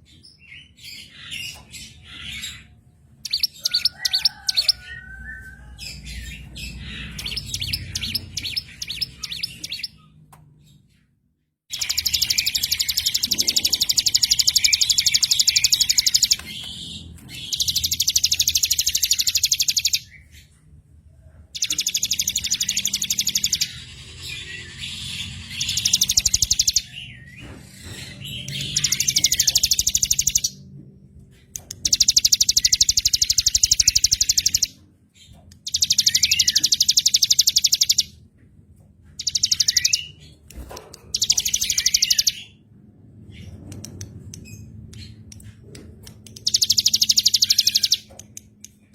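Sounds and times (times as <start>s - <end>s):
soft bird chirps and twitters: 0.0s - 11.1s, 11.7s - 38.2s, 39.0s - 42.7s, 43.4s - 48.9s.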